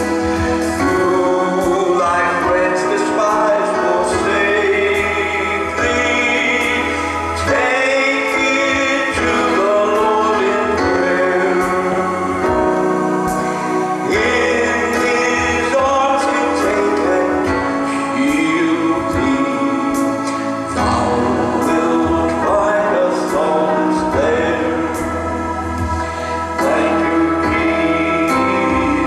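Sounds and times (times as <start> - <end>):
electronic keyboard chords: 0.0 - 29.0
man singing a hymn: 0.0 - 29.0.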